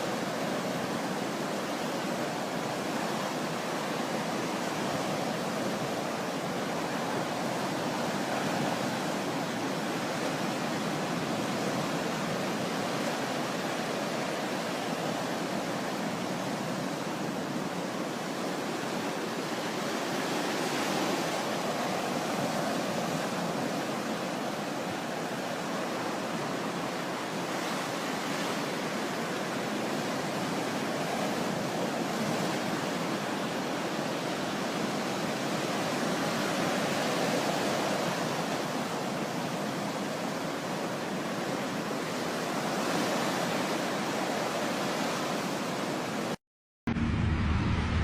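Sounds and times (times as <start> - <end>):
sea waves washing on shore: 0.0 - 46.4.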